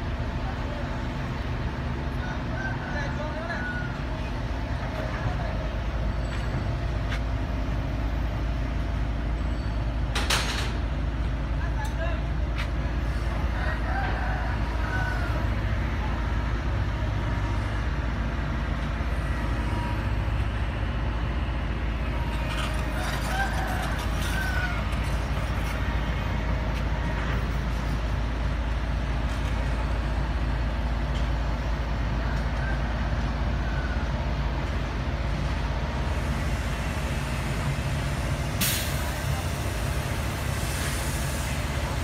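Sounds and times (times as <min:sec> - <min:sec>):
heavy diesel engines rumbling: 0:00.0 - 0:42.0.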